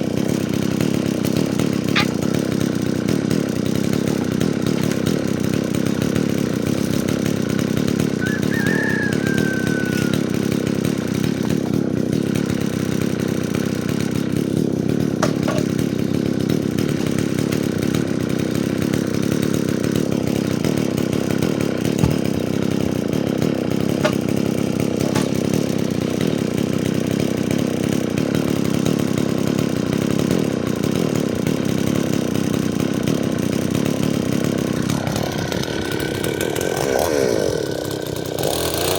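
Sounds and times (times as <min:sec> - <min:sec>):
chainsaw sawing firewood: 0:00.0 - 0:38.9.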